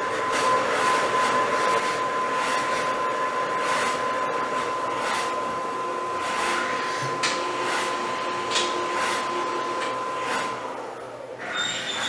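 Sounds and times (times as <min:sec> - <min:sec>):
printer hiss: 0:00.0 - 0:10.8
printer mechanical whir: 0:00.0 - 0:12.0.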